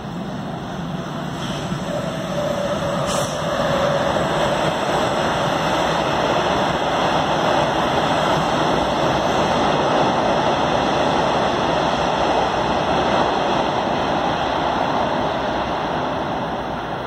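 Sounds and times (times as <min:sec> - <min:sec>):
train passing on rails: 0:00.0 - 0:17.0.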